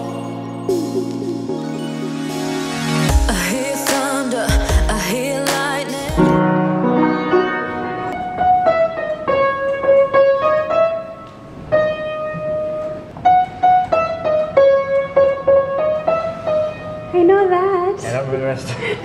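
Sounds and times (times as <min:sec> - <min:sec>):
slow piano melody: 0:00.0 - 0:17.8.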